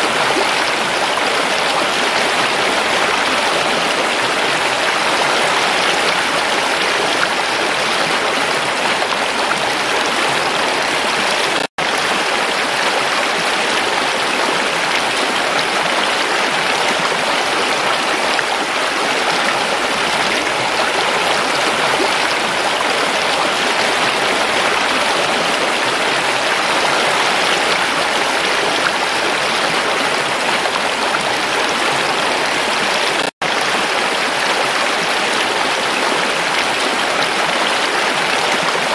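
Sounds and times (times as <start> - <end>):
stream rushing over stones: 0.0 - 38.9.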